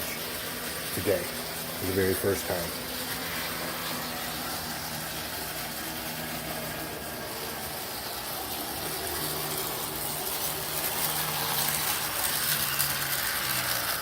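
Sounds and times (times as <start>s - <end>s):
continuous hiss: 0.0s - 14.0s
model train motor humming: 0.0s - 14.0s.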